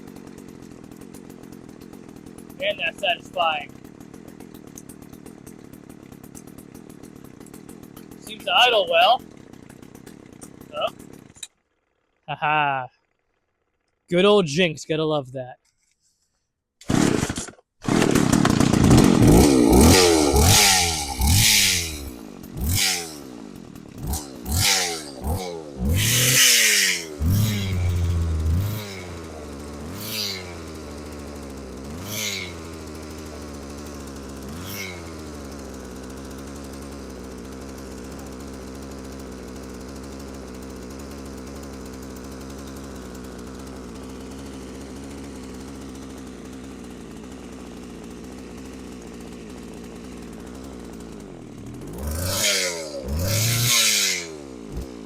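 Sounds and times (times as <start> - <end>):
chainsaw engine revving and idling: 0.0 - 15.2, 16.8 - 55.0.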